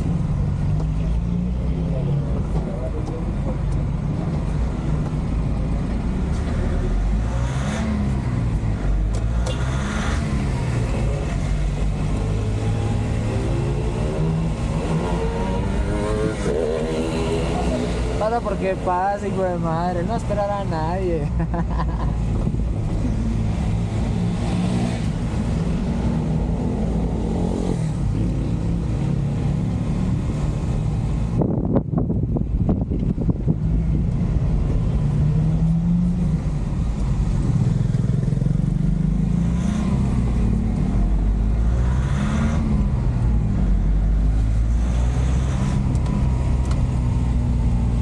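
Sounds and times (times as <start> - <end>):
truck diesel engine: 0.0 - 48.0.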